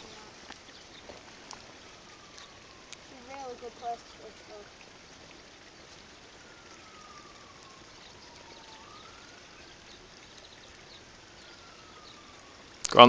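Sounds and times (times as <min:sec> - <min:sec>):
distant siren wailing: 0:00.0 - 0:13.0
faint outdoor hiss: 0:00.0 - 0:13.0.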